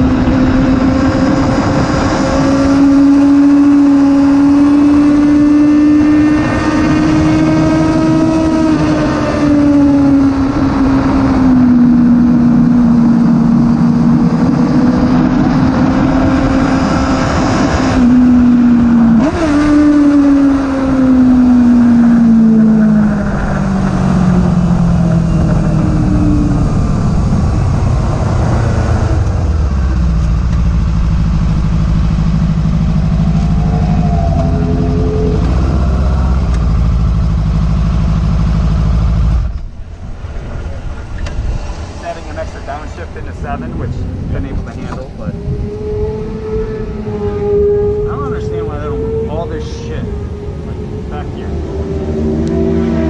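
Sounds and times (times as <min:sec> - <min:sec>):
wind rush: 0:00.0 - 0:19.6, 0:20.3 - 0:37.4, 0:39.7 - 0:48.0
motorcycle engine revving: 0:00.0 - 0:53.0.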